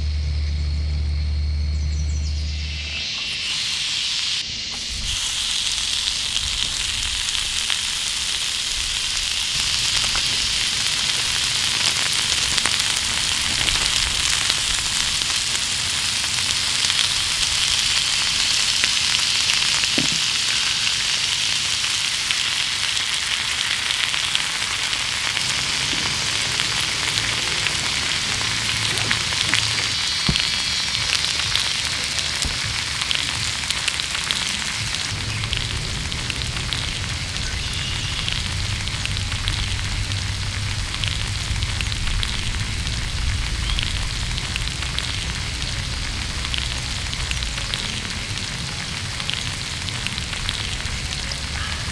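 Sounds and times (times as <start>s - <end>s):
pork sizzling in grill pan: 2.2s - 51.9s.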